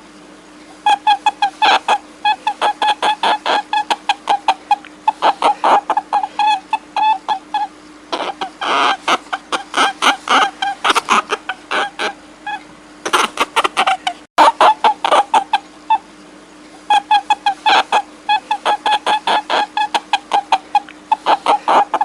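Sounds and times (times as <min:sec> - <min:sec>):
steady low hum: 0:00.0 - 0:22.0
rapid pitched animal calls: 0:00.7 - 0:22.0.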